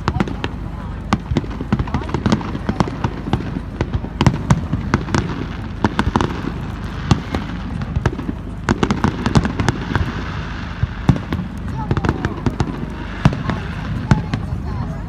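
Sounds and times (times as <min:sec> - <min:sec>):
fireworks bangs and crackles: 0:00.0 - 0:15.0
low rumble: 0:00.0 - 0:15.0.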